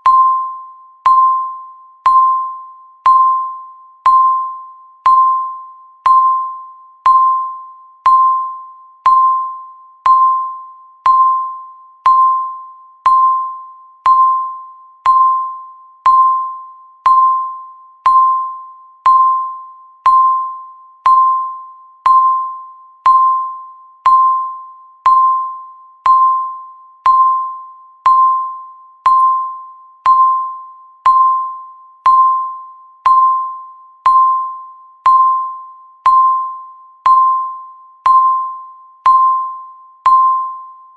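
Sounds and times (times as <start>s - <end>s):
timer ticking ping: 0.0s - 40.8s.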